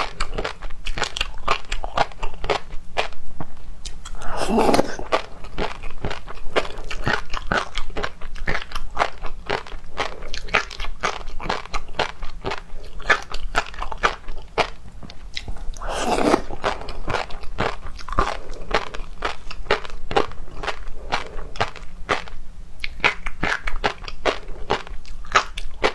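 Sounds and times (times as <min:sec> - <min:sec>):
crunching and chewing food: 0:00.0 - 0:25.9.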